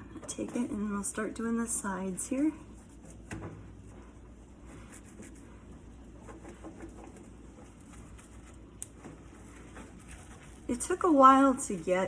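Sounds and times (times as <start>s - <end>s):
rag wiping microwave walls: 0.3s - 12.0s.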